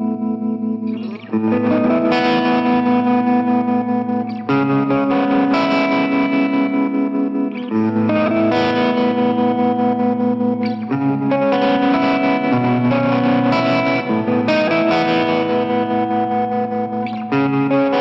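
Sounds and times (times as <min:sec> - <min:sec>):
electric guitar chords with tremolo: 0:00.0 - 0:18.0.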